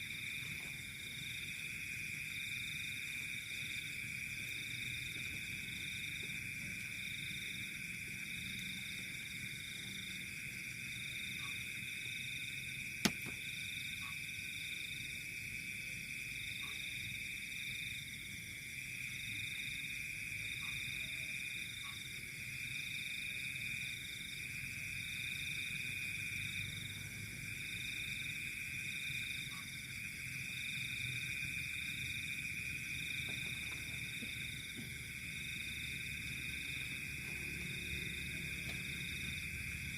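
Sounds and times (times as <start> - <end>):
frogs and insects trilling: 0.0 - 39.9.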